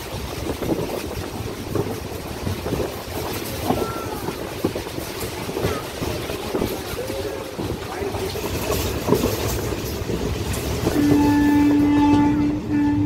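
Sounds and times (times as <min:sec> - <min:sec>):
vehicle rumble and road noise: 0:00.0 - 0:13.0.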